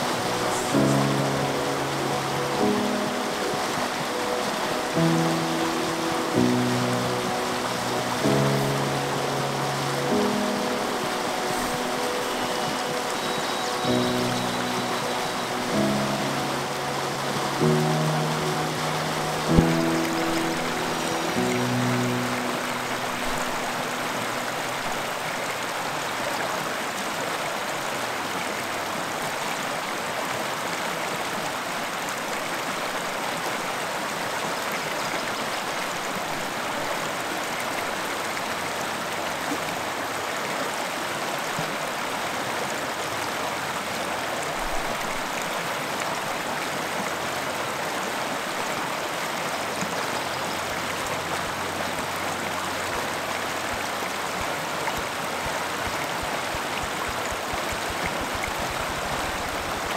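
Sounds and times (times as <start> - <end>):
creek rushing over stones: 0.0 - 59.9.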